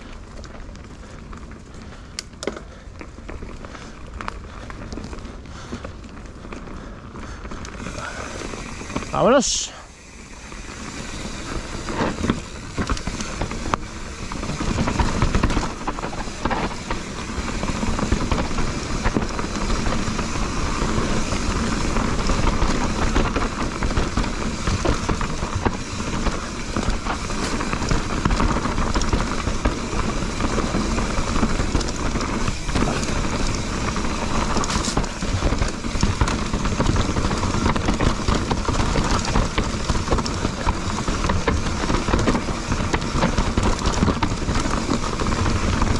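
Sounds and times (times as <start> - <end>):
bike rattling: 0.0 - 45.9
tyres rolling over dirt and stones: 0.0 - 45.9.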